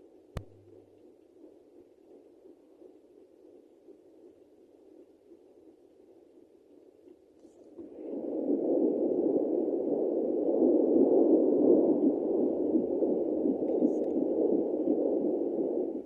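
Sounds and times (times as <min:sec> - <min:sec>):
fetal heartbeat on doppler speaker: 0:00.0 - 0:07.0, 0:07.8 - 0:16.0.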